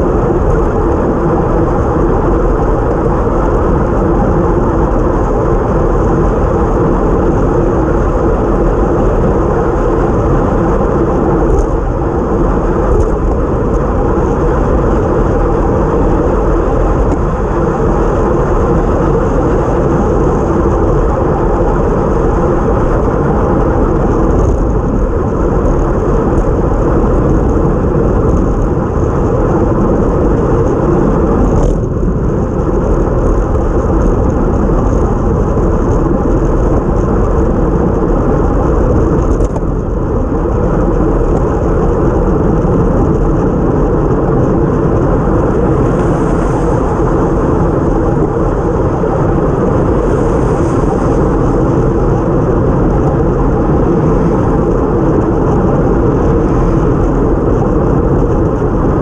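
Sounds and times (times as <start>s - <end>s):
tyre noise on wet road: 0.0s - 59.0s
wind rushing: 0.0s - 59.0s.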